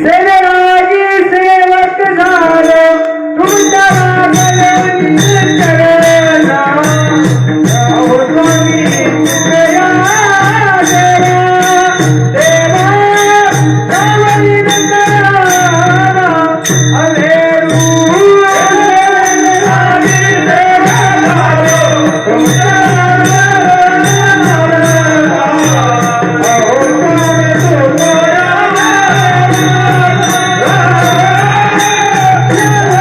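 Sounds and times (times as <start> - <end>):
melismatic vocal melody: 0.0 - 33.0
small cymbal clashes: 3.4 - 33.0
regular drum beat: 3.5 - 33.0.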